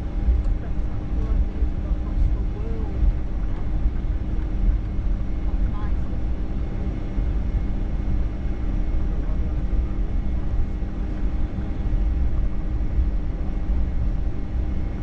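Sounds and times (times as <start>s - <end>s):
low cabin rumble: 0.0s - 15.0s.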